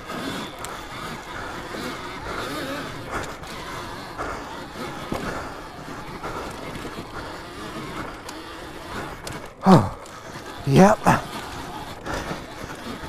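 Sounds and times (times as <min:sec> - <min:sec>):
drive chain clattering and whining: 0:00.0 - 0:13.0.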